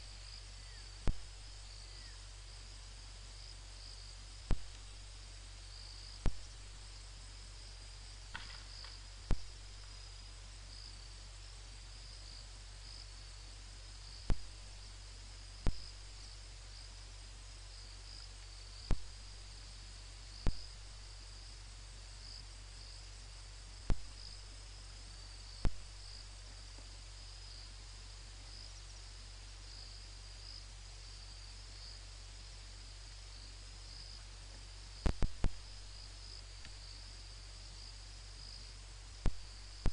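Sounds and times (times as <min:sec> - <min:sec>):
crickets chirring: 0:00.0 - 0:39.9
low steady hum: 0:00.0 - 0:39.9.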